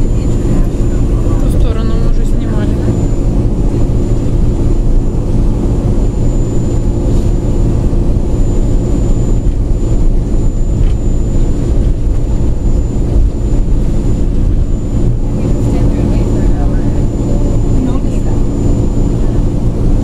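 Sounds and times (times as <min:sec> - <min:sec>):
high-pitched whine: 0:00.0 - 0:20.0
monorail car rumbling: 0:00.0 - 0:20.0.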